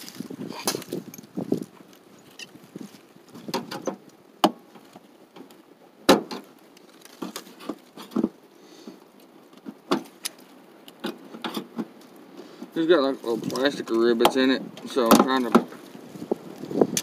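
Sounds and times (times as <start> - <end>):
plastic ribbons rustling and scraping: 0.0 - 17.0.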